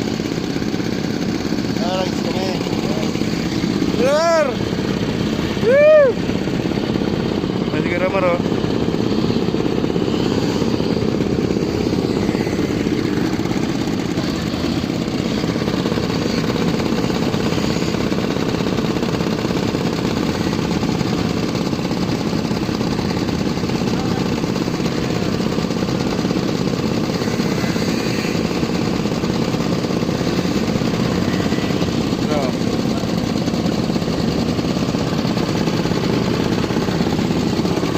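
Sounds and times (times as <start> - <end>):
small engine running with rattle: 0.0 - 37.9.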